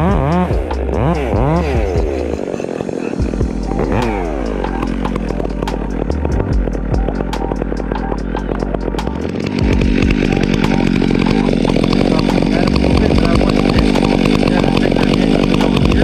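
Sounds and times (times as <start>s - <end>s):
chainsaw running at full throttle: 0.0s - 16.0s.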